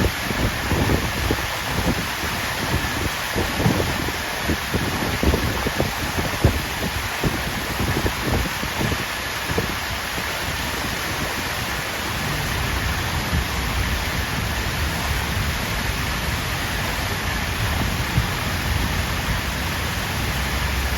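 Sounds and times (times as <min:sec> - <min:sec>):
water fountain splashing: 0:00.0 - 0:20.9.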